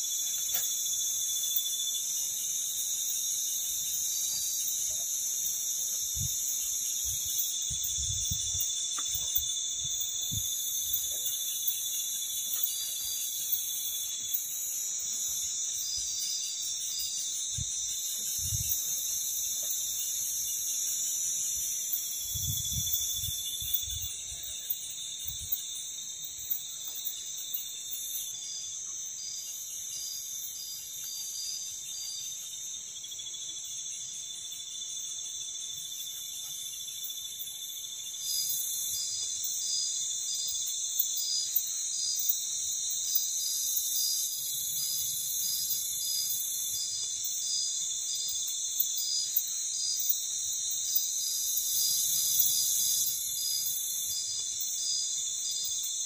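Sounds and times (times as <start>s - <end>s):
insects trilling and buzzing: 0.0s - 56.0s.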